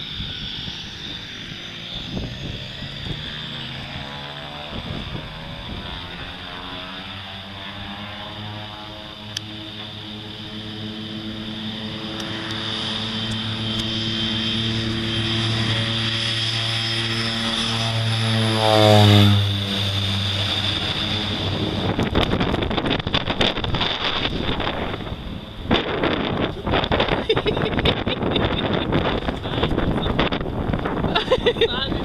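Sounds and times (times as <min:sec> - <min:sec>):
turboprop plane droning: 0:00.0 - 0:32.0
wind buffeting microphone: 0:00.0 - 0:32.0.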